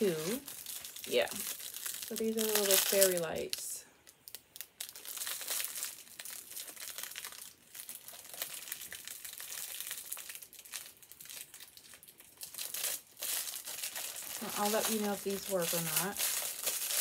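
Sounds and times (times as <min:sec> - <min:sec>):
packaging crackling: 0:00.0 - 0:17.0.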